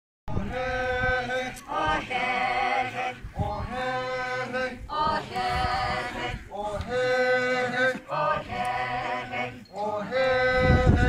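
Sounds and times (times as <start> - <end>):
group singing a chant in unison: 0.3 - 11.0.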